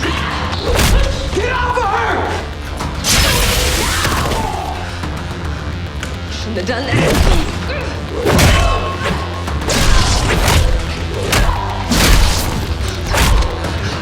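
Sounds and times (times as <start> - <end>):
dramatic music score: 0.0 - 14.0.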